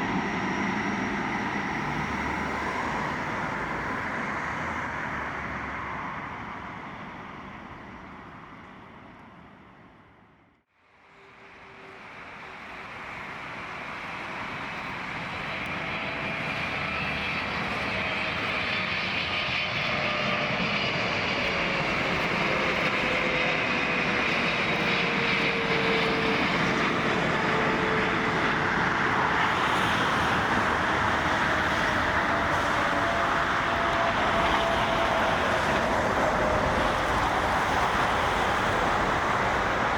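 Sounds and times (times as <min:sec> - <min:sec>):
jet engine noise: 0:00.0 - 0:10.4, 0:11.0 - 0:39.9
arriving jet engines whining: 0:00.0 - 0:39.9.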